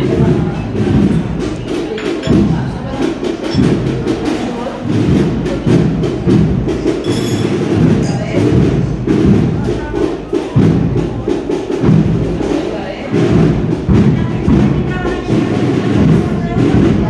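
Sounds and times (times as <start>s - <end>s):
bass drum beats: 0.0s - 17.0s
snare drums beating a march: 0.0s - 17.0s.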